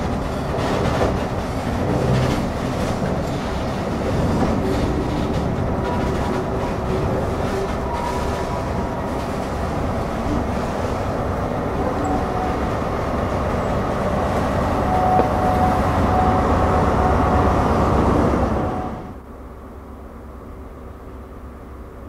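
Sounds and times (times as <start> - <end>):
diesel train passing: 0.0 - 22.0.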